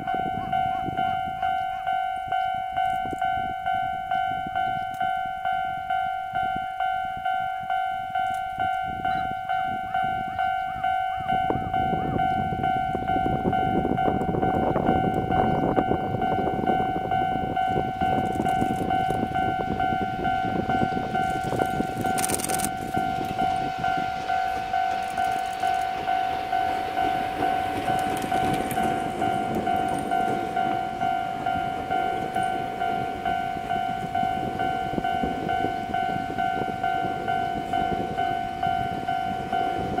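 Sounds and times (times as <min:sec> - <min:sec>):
level crossing bell ringing: 0:00.0 - 0:40.0
train rumbling past: 0:00.0 - 0:40.0.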